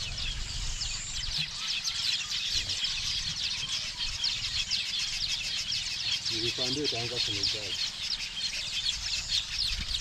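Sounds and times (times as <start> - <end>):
flock of small birds chirping: 0.0 - 10.0.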